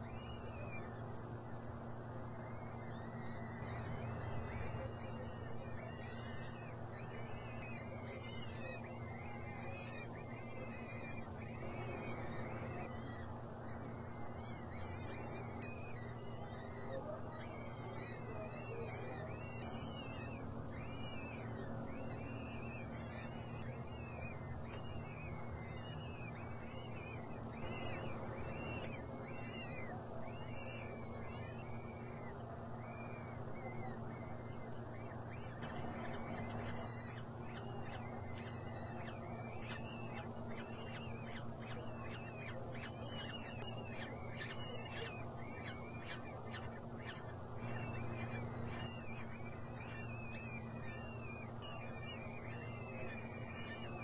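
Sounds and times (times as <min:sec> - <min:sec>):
falcon chicks cheeping: 0:00.0 - 0:54.0
steady low hum: 0:00.0 - 0:54.0.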